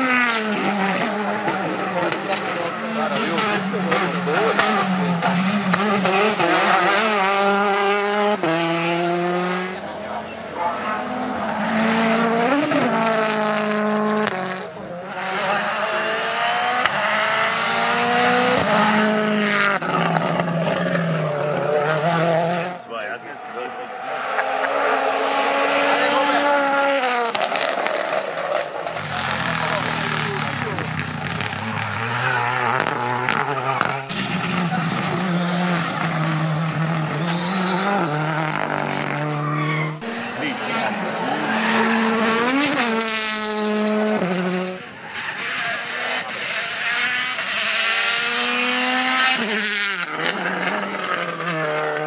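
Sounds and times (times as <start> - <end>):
rally car engine at full throttle: 0.0 - 52.0.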